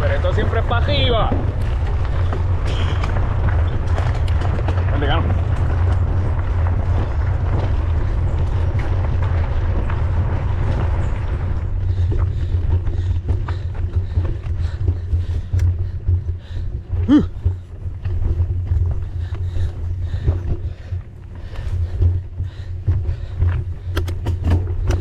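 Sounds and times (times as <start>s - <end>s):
bike rattling and clicking: 0.0s - 25.0s
wind buffeting microphone: 0.0s - 25.0s.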